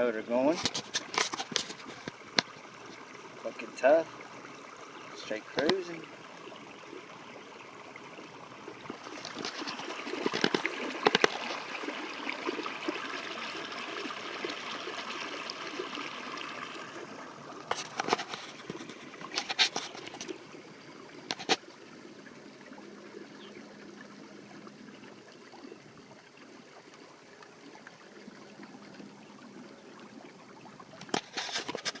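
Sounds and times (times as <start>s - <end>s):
water splashing along hull: 0.0s - 32.0s.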